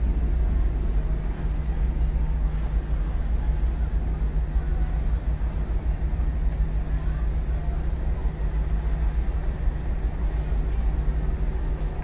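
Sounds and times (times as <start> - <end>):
constant hum: 0.0 - 12.0
ship machinery rumble: 0.0 - 12.0
wind buffeting microphone: 0.0 - 12.0.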